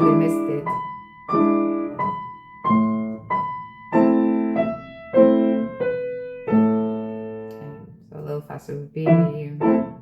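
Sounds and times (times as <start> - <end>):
slow piano notes and chords: 0.0 - 10.0.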